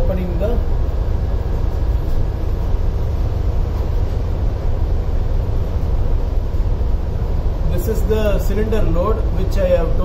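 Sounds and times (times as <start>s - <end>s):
ship engine rumble and hum: 0.0s - 10.0s.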